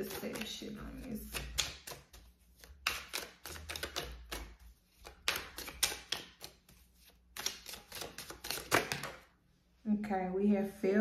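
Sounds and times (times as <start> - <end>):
cards shuffling: 0.0 - 9.2.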